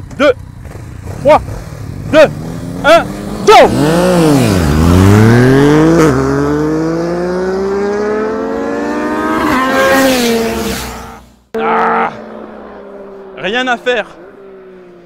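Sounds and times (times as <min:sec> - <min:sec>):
motorcycle engine accelerating hard: 0:00.0 - 0:15.0
motorcycle passing by: 0:00.4 - 0:15.0.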